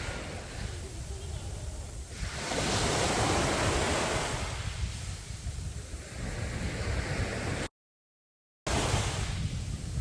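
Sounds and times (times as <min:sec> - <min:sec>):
sea waves breaking: 0:00.0 - 0:07.7, 0:08.7 - 0:10.0
wind rumble on microphone: 0:00.0 - 0:07.7, 0:08.7 - 0:10.0.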